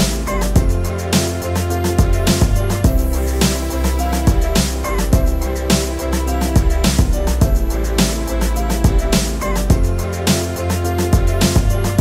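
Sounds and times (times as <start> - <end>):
background music with steady beat: 0.0 - 12.0
deep constant bass: 0.0 - 12.0.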